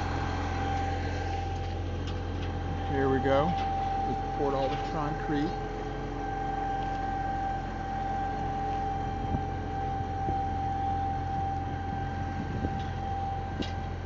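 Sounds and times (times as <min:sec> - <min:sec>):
high whine: 0:00.0 - 0:14.0
truck engine running: 0:00.0 - 0:14.0.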